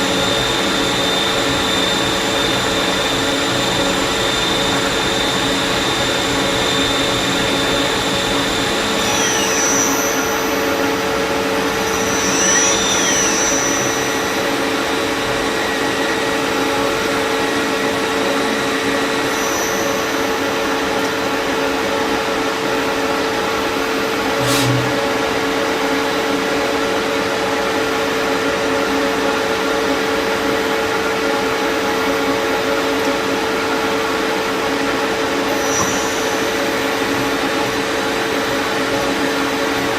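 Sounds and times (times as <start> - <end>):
lathe humming and whining: 0.0 - 39.9.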